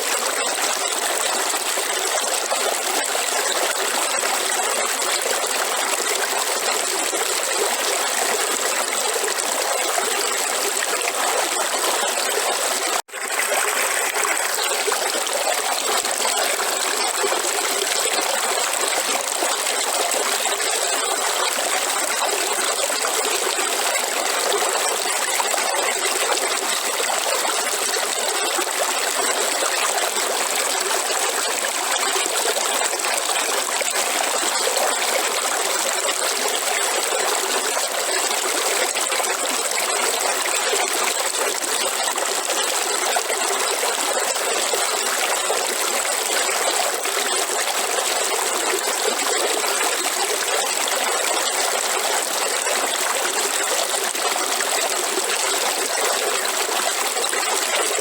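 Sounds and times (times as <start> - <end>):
river water running over rocks: 5.7 - 58.0.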